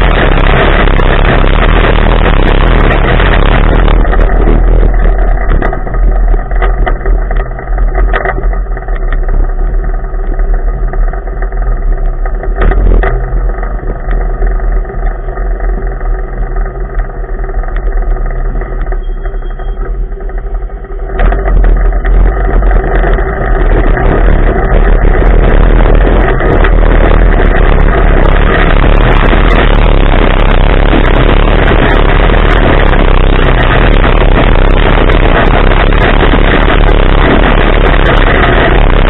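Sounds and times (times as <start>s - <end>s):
knocks and clatter from rough ground: 0.0s - 39.0s
off-road vehicle engine roaring: 0.0s - 39.0s.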